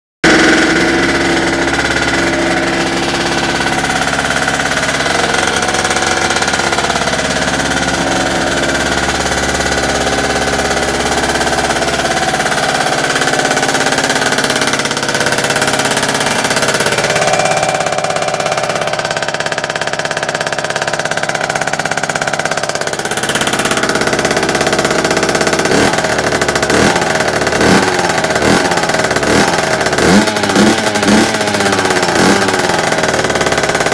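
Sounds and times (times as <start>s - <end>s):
two-stroke scooter engine revving: 0.2s - 33.9s.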